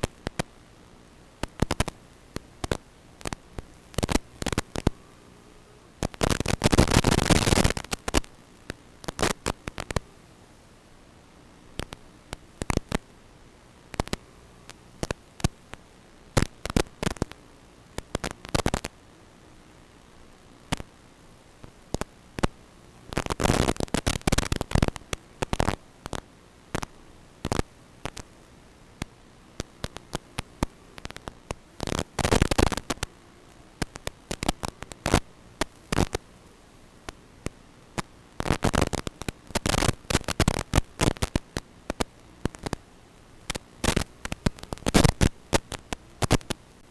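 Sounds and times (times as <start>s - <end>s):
crackling noise bursts: 0.0s - 46.9s
video link static hiss: 0.0s - 46.9s.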